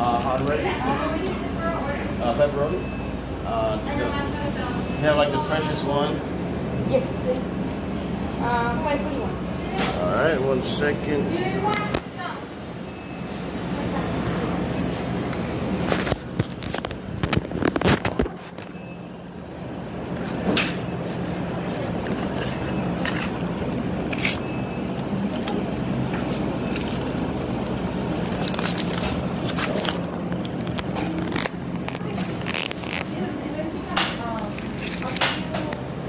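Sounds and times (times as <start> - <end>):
steady low hum: 6.1 - 36.0.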